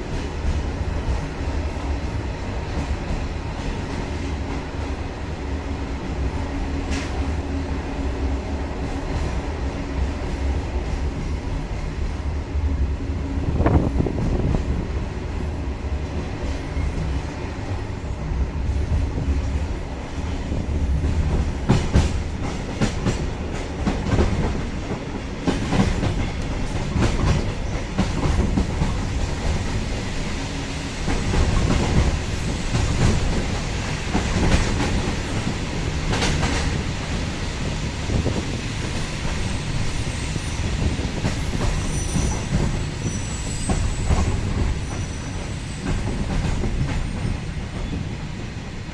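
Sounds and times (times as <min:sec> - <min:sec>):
train low rumble: 0:00.0 - 0:48.9.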